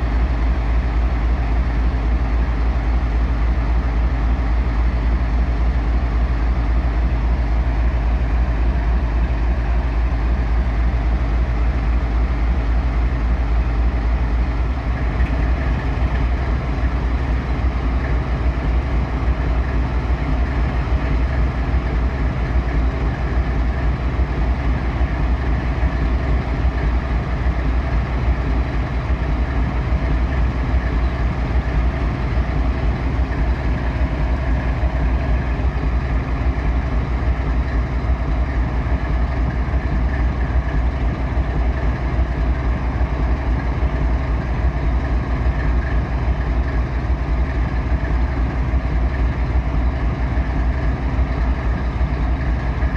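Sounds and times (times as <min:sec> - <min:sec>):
diesel locomotive engine idling: 0:00.0 - 0:52.9.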